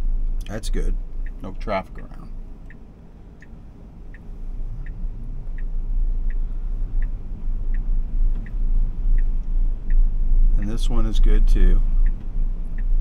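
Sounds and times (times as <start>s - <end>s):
road and tyre rumble: 0.0s - 13.0s
turn signal ticking: 0.0s - 13.0s.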